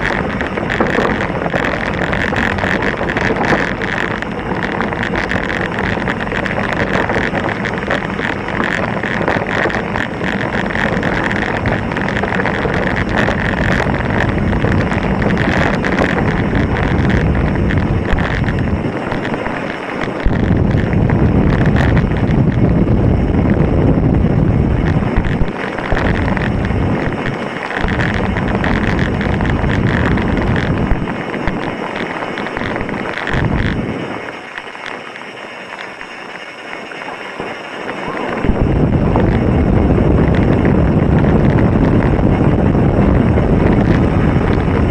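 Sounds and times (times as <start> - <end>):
bike rattling over stones: 0.0 - 44.9
wind noise on microphone: 0.0 - 44.9.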